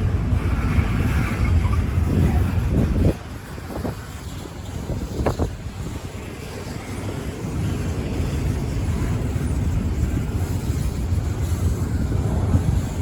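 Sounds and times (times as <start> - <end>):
freight train rumble: 0.0 - 13.0
wind buffeting microphone: 0.0 - 13.0.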